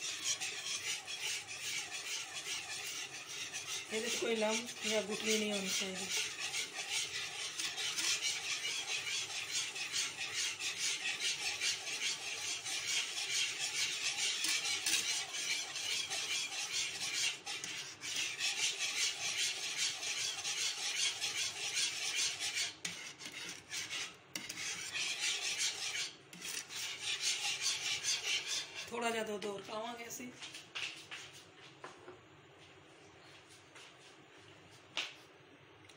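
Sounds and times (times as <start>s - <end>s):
whisk scraping metal pan: 0.0s - 29.6s.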